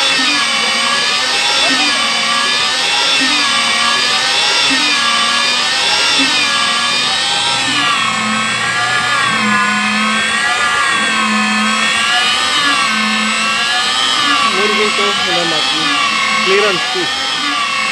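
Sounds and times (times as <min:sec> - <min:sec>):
facing tool whine: 0:00.0 - 0:17.9.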